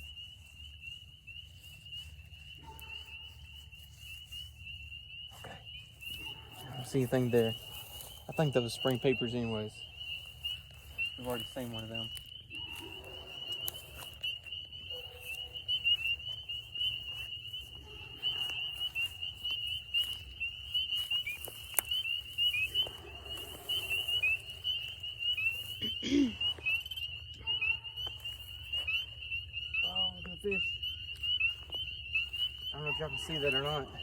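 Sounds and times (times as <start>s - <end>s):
frogs peeping in chorus: 0.0s - 34.0s.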